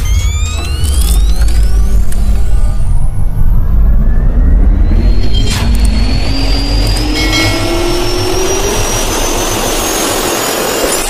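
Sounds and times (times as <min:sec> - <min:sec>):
jet engine spooling up: 0:00.0 - 0:11.0
whoosh: 0:00.0 - 0:11.0.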